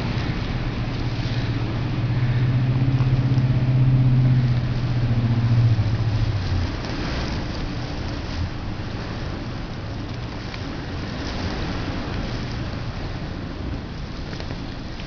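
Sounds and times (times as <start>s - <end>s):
engine humming: 0.0s - 15.0s
wind noise: 0.0s - 15.0s.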